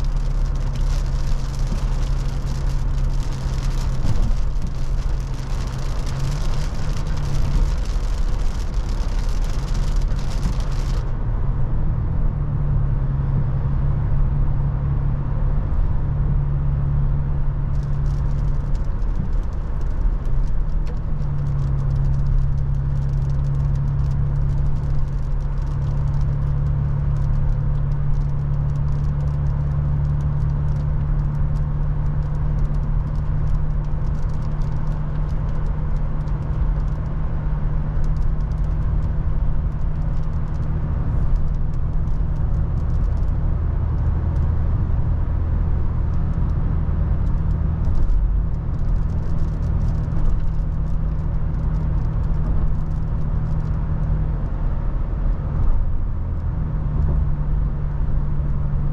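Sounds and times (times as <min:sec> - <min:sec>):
car engine and tyre noise: 0:00.0 - 0:58.9.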